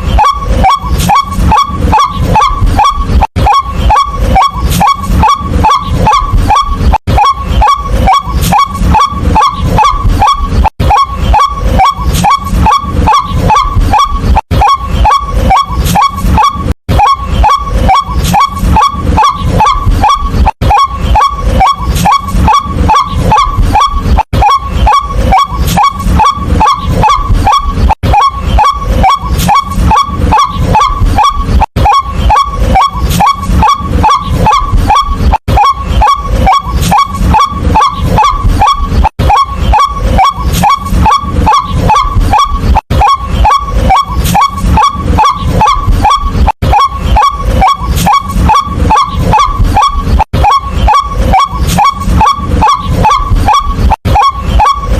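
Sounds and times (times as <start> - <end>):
waterhen calling: 0.0 - 54.9.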